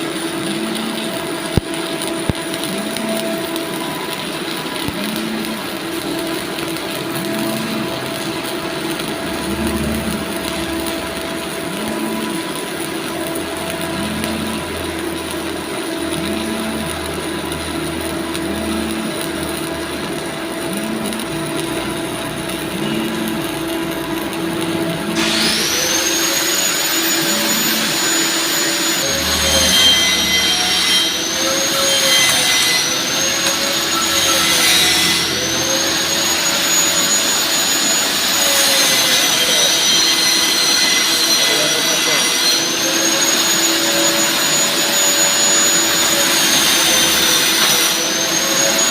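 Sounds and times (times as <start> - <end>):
power tool high whine: 0.0 - 48.9.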